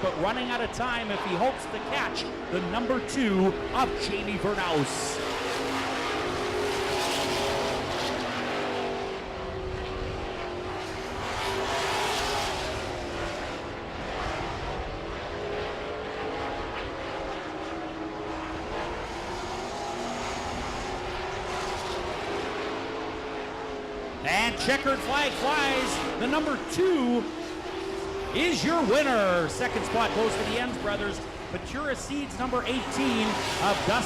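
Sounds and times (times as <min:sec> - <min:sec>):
race truck engines: 0:00.0 - 0:34.0.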